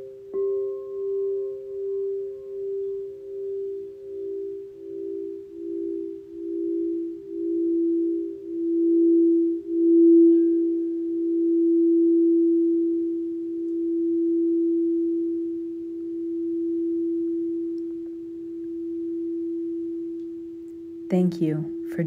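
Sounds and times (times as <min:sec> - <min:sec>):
singing bowls ringing: 0:00.0 - 0:22.0.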